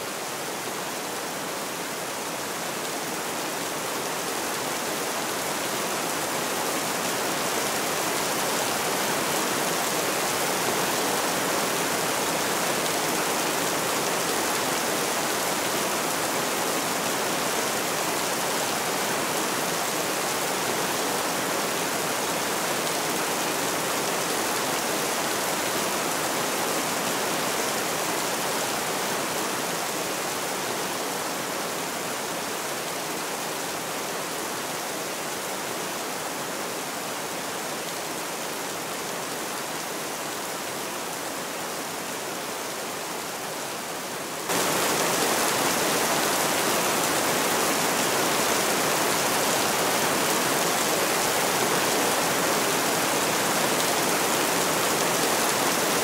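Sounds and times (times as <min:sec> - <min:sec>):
steady rain downpour: 0:00.0 - 0:56.0.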